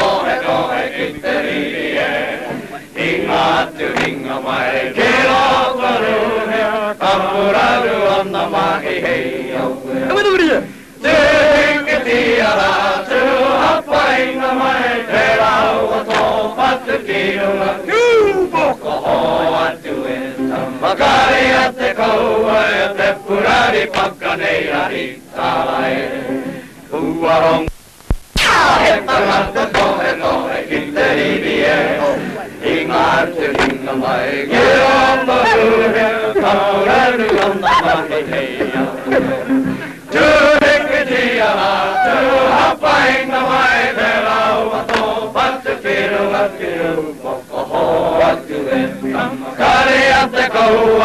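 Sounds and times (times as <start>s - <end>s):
group chanting in unison: 0.0s - 10.1s, 11.0s - 27.7s, 28.6s - 51.0s.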